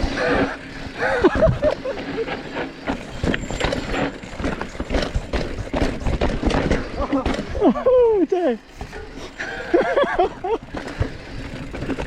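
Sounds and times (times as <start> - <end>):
mountain bike clattering on trail: 0.0 - 12.0.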